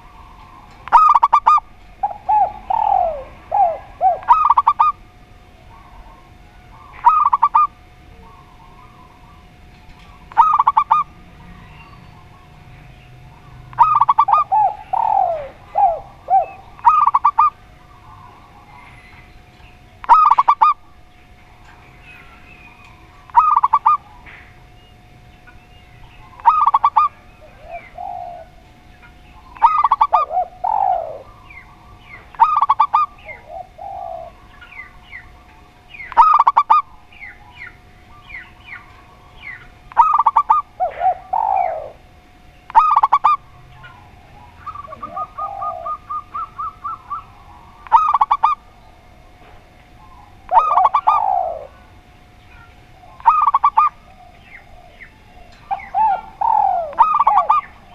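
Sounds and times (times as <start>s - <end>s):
doves cooing: 0.0s - 57.9s.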